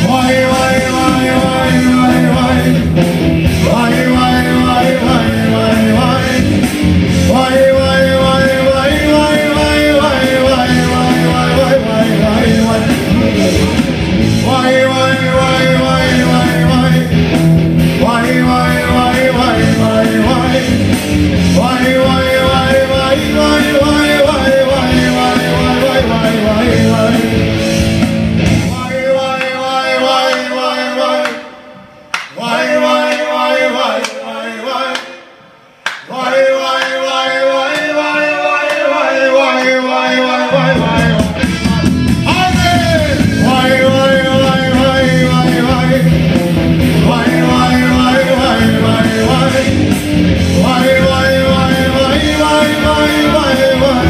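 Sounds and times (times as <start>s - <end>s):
man singing: 0.0s - 27.6s, 28.5s - 35.3s, 36.0s - 54.0s
electric guitars: 0.0s - 32.4s, 40.4s - 54.0s.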